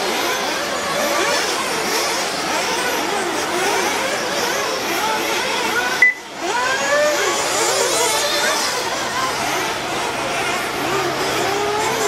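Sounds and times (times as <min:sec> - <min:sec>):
rc car engines whining: 0:00.0 - 0:12.0.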